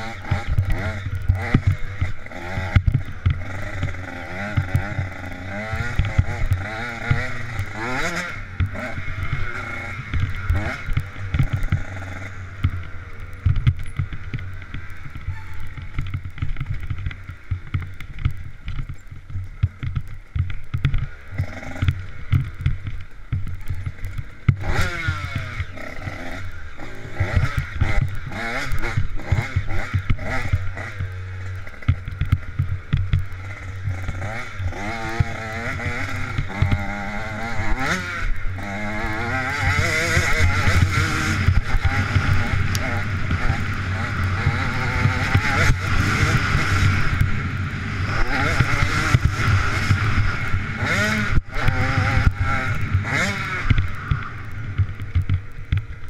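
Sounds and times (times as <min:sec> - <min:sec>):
dirt bike engine revving: 0:00.0 - 0:18.2, 0:20.6 - 0:55.8.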